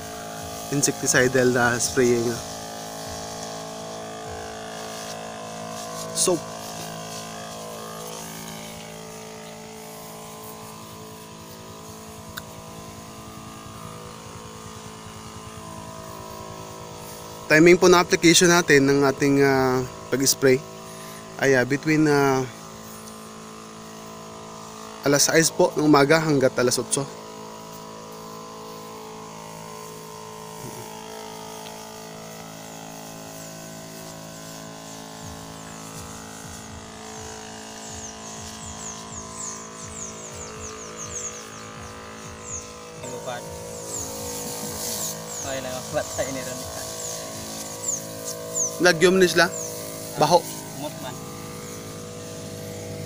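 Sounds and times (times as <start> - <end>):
sprayer motor humming: 0.0 - 53.0.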